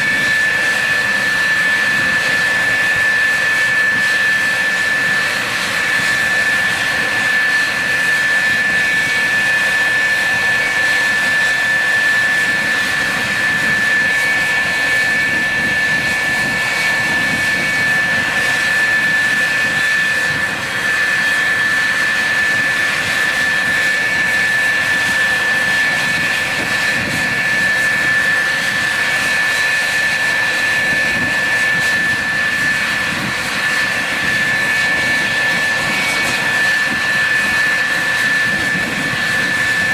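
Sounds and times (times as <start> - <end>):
jet engine whine and roar: 0.0 - 39.9.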